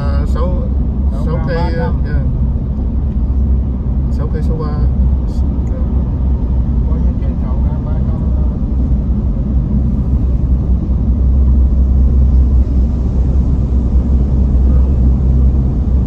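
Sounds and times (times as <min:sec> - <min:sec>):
bus passing: 0:00.0 - 0:16.0
car driving through tunnel: 0:00.0 - 0:16.0.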